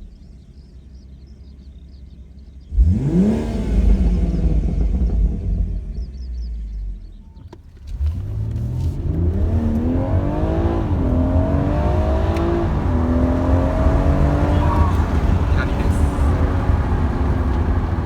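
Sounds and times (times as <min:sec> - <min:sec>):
car engine accelerating through gears: 0:02.6 - 0:18.0.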